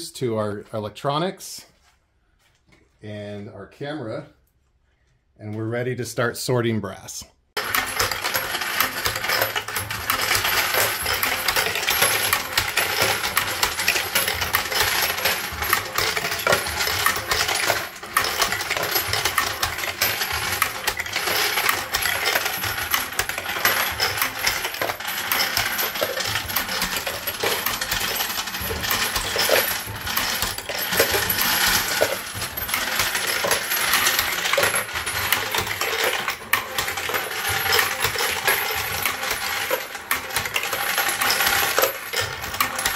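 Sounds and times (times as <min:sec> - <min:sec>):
metal cases clinking and rattling: 0:07.6 - 0:42.9.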